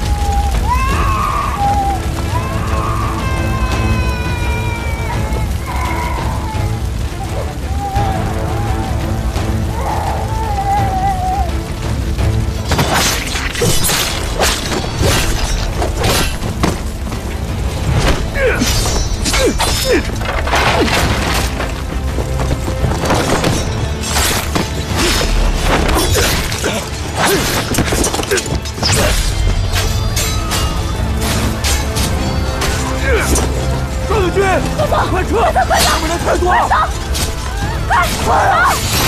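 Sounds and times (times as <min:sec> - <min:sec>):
dramatic orchestral score: 0:00.0 - 0:39.0.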